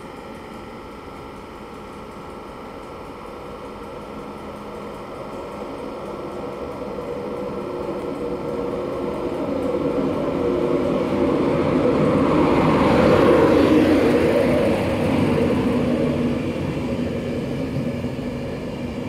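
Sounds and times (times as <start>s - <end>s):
electric locomotive humming: 0.0s - 19.0s
train approaching rumble: 0.0s - 19.0s.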